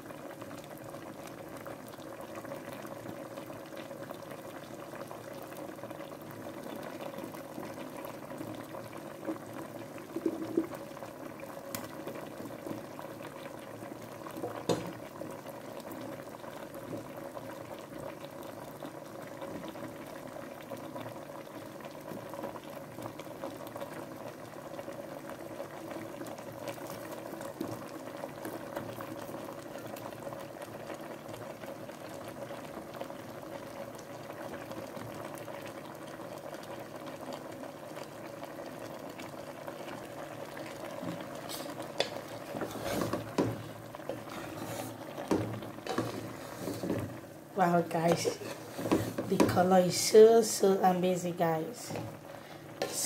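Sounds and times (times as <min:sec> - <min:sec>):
pot of water boiling: 0:00.0 - 0:53.0.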